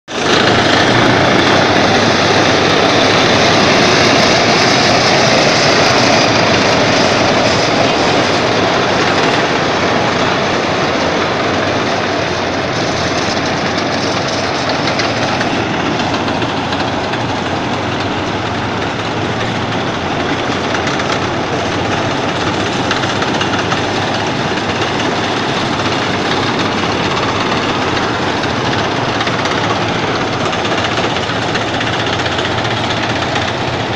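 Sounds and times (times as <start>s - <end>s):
diesel engines running: 0.0s - 33.9s
tank tracks clattering on asphalt: 0.1s - 33.9s.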